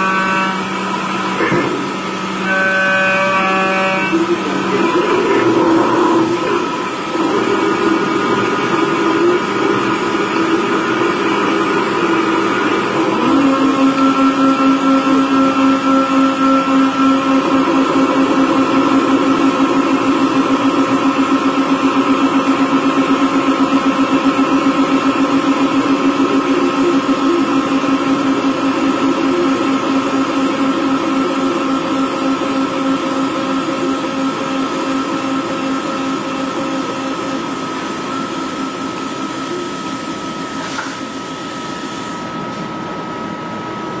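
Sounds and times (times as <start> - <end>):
lathe machine hum: 0.0 - 44.0.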